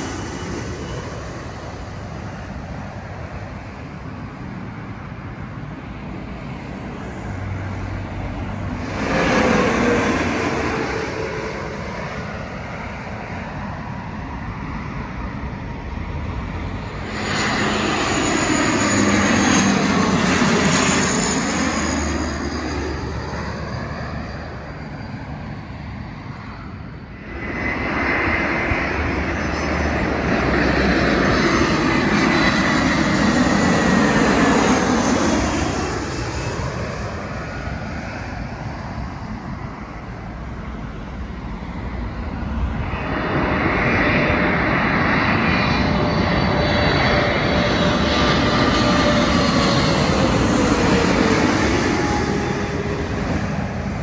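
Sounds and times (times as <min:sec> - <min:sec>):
jet airliner passing overhead: 0:00.0 - 0:54.0
turboprop plane passing: 0:00.0 - 0:54.0.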